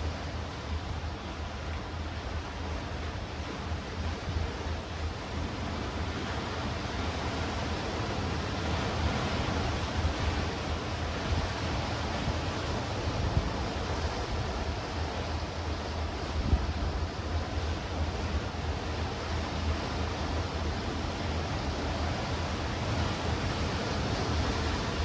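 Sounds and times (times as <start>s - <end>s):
waves washing over rocks: 0.0s - 25.0s
wind: 0.0s - 25.0s.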